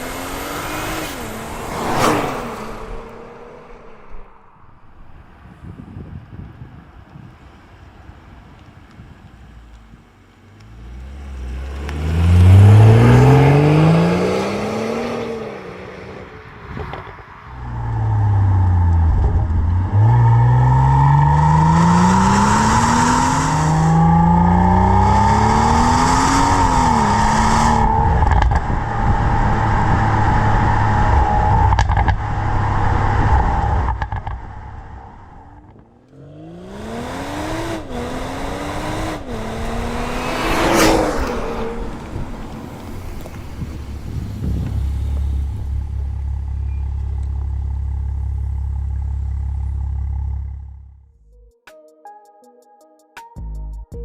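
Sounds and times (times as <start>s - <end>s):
car engine accelerating hard: 0.0s - 5.3s, 10.7s - 51.0s.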